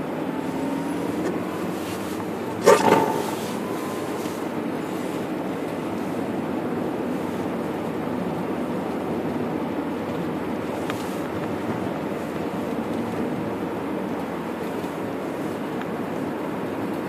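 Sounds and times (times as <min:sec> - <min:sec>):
car engine: 0:00.0 - 0:17.0
tyres on snowy road: 0:00.0 - 0:17.0.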